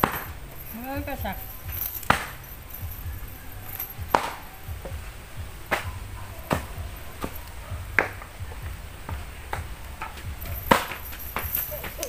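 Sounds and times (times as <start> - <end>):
lead sinkers knocking on concrete: 0.0 - 12.0.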